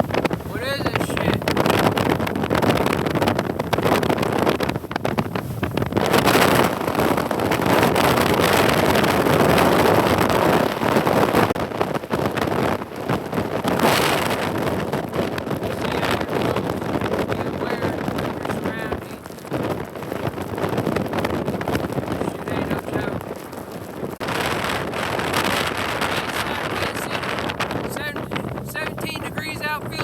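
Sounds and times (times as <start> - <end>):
gusty wind: 0.0 - 30.0.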